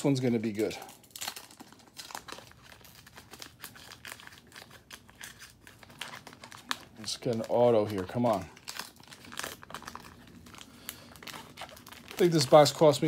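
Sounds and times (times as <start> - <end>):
crinkly wrapper tearing and rustling: 0.0 - 13.0.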